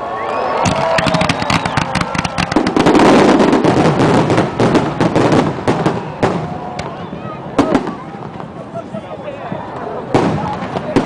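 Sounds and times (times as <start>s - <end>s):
fireworks bursting and crackling: 0.4s - 11.0s.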